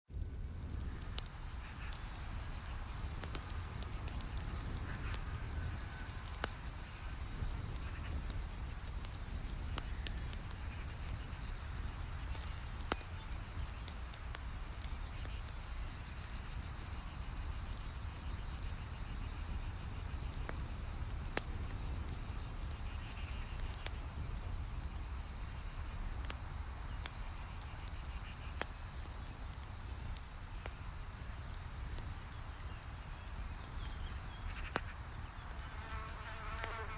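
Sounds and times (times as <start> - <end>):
campfire crackling: 0.1 - 36.9
sharp pops of fire: 0.1 - 36.9
insects chirring: 0.2 - 36.9.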